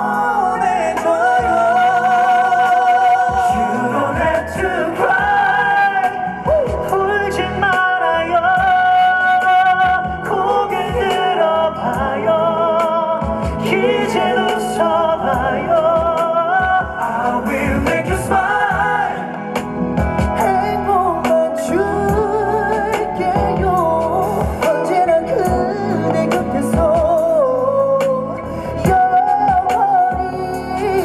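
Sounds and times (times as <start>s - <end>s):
backing track music: 0.0s - 31.0s
man singing slow ballad: 0.0s - 31.0s.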